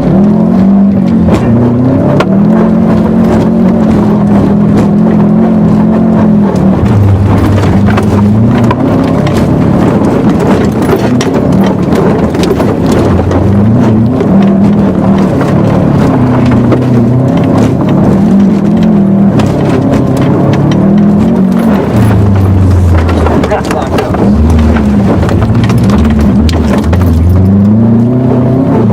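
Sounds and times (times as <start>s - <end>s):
car engine revving: 0.0s - 28.9s
knocks and rattles: 0.0s - 28.9s.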